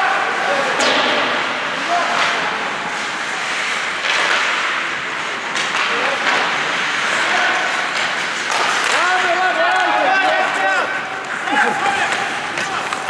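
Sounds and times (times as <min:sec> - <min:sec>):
skates scraping on ice: 0:00.0 - 0:13.0
hockey sticks and puck knocking: 0:00.3 - 0:13.0.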